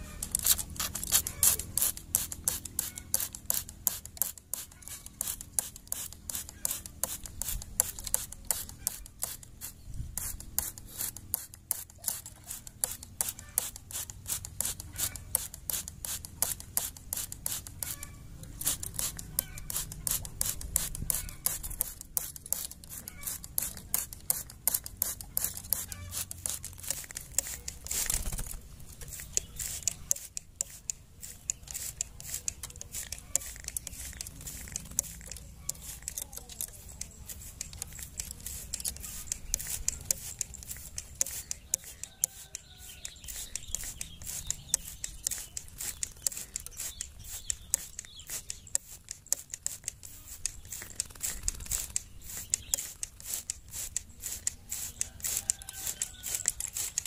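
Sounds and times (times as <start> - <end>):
pump sprayer squirting water: 0.0 - 57.0.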